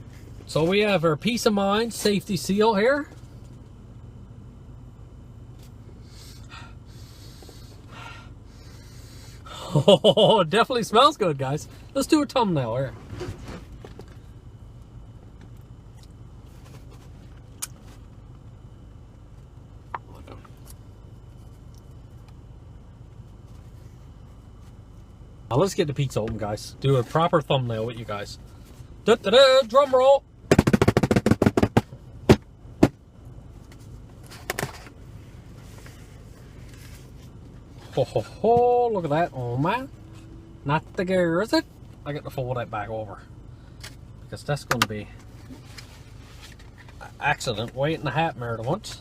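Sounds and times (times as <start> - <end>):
car cabin hum: 0.0 - 49.0.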